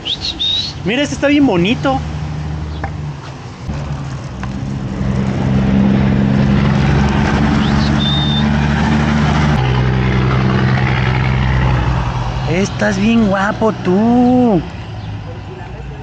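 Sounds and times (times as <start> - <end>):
vehicle engine running: 1.0 - 16.0.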